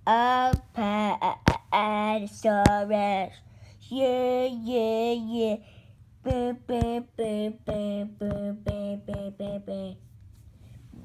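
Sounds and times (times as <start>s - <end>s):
child singing: 0.0s - 10.0s.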